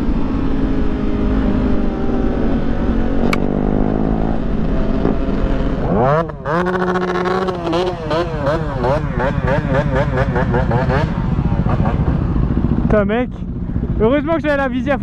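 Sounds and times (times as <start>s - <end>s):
motorcycle engine revving: 0.0s - 15.0s
steady low rumble: 0.0s - 15.0s.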